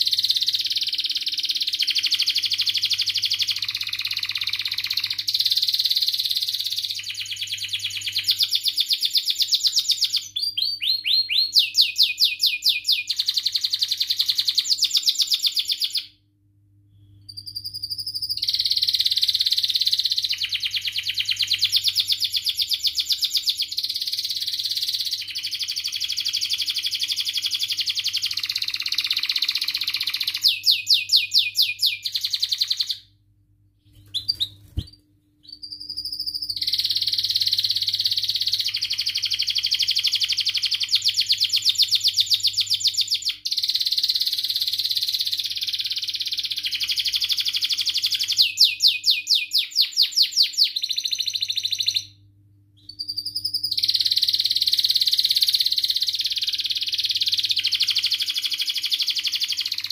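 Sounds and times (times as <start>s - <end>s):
canary singing trills: 0.0s - 16.2s, 16.9s - 33.1s, 33.8s - 59.9s.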